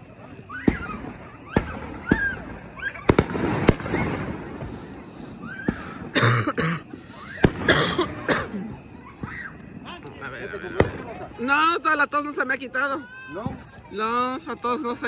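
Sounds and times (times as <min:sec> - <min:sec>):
fireworks bangs: 0:00.0 - 0:15.0
fireworks hiss: 0:00.0 - 0:15.0.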